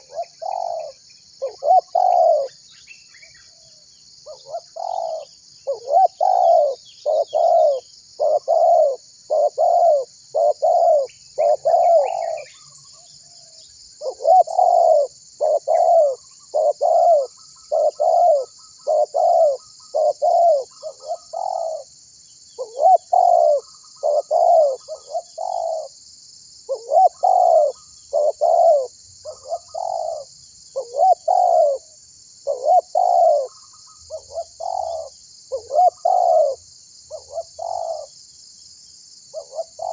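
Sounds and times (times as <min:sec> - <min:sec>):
dove cooing: 0:00.0 - 0:02.6, 0:04.2 - 0:12.8, 0:14.0 - 0:21.9, 0:22.6 - 0:26.0, 0:26.7 - 0:38.2, 0:39.3 - 0:39.9.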